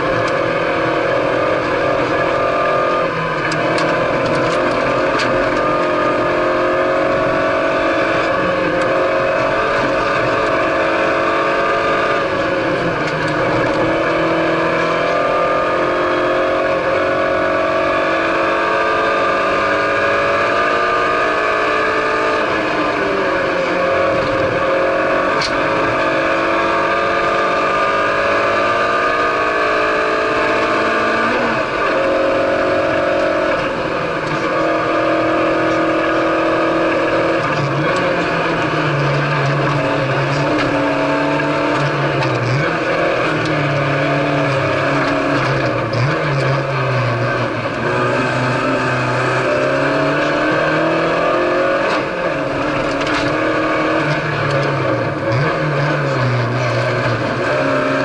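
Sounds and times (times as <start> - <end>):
car engine revving: 0.0 - 58.0
road and tyre noise: 0.0 - 58.0.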